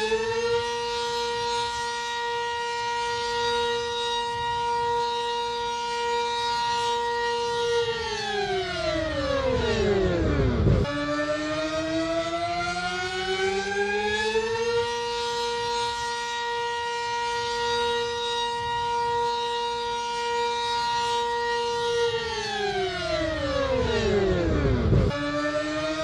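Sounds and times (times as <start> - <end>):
reversed siren: 0.0 - 26.0.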